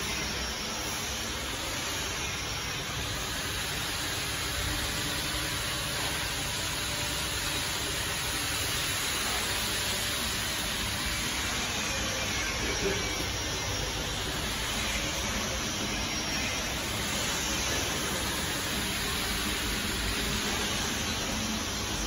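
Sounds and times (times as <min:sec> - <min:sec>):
furnace hissing and rumbling: 0:00.0 - 0:22.0.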